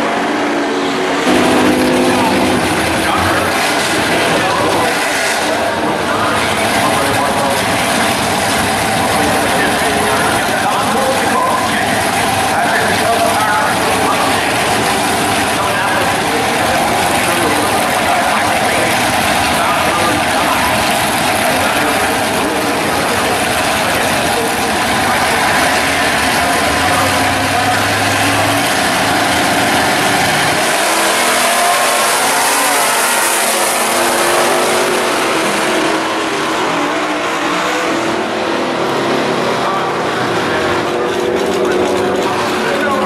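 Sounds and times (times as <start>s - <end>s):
drag racing car engines: 0.0s - 43.0s.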